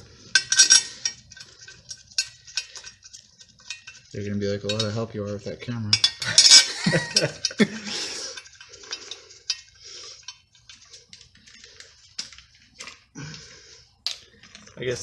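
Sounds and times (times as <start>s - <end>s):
metal tools clinking and clattering: 0.0s - 13.0s.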